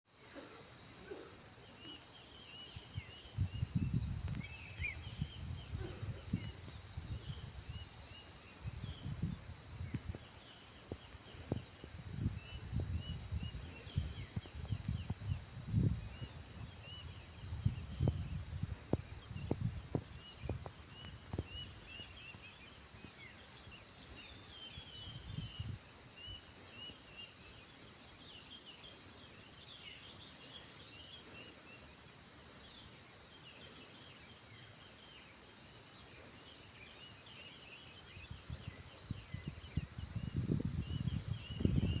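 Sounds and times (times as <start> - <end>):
insect steady high trill: 0.1 - 42.0
short insect chirps: 0.6 - 42.0.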